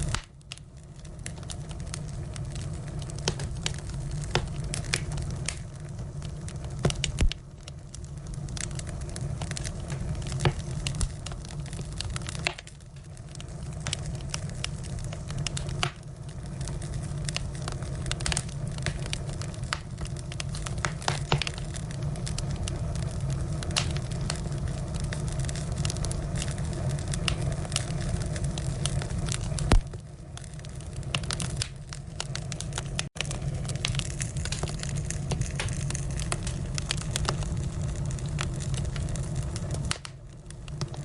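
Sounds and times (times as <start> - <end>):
firewood crackling and popping: 0.0 - 41.0
low rumble of fire: 0.0 - 41.0.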